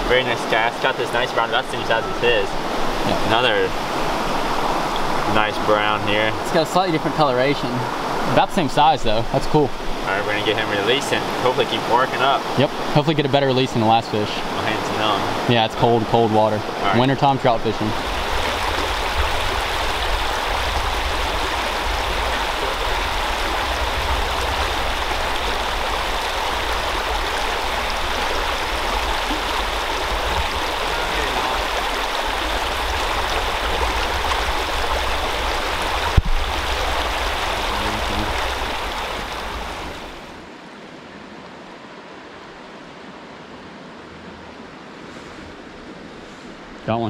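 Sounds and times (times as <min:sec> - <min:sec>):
creek running over rocks: 0:00.0 - 0:47.0.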